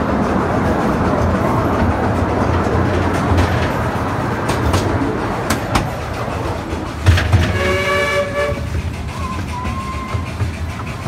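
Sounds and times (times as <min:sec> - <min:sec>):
train cars rumbling on track: 0:00.0 - 0:11.0
wheels clacking over rail joints: 0:00.0 - 0:11.0.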